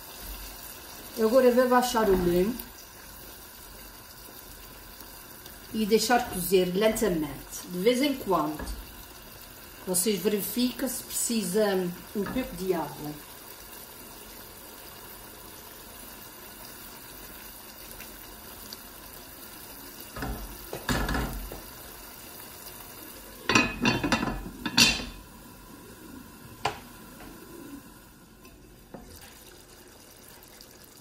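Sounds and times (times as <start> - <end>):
stew simmering: 0.0 - 31.0.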